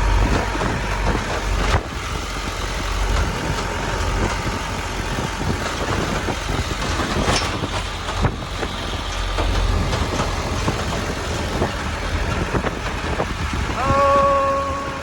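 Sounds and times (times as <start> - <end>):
knocks and rattles: 0.0 - 13.8
truck engine and road noise: 0.0 - 15.0
wind buffeting microphone: 0.0 - 15.0.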